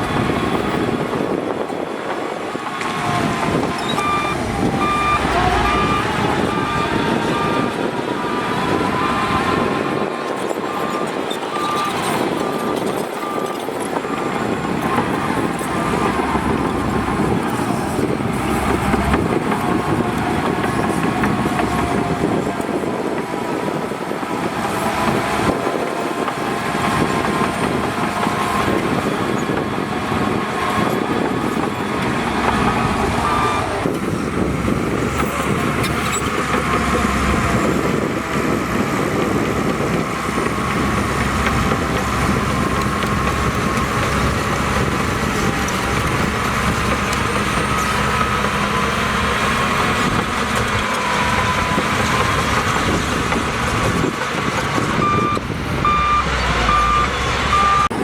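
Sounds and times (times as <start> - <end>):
diesel earthmoving machinery: 0.0 - 58.0.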